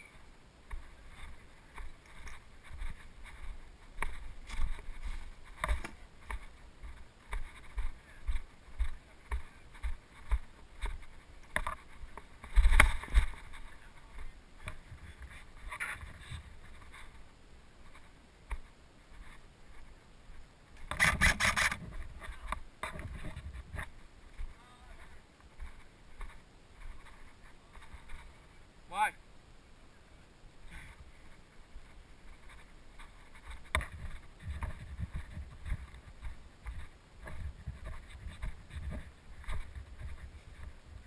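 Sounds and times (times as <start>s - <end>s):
footsteps through dry undergrowth: 0.1s - 28.6s, 30.7s - 41.0s.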